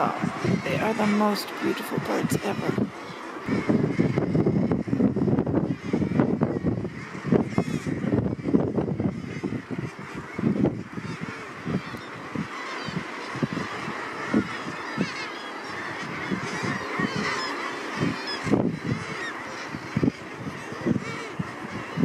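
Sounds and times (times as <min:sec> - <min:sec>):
seabirds honking: 0:00.0 - 0:22.0.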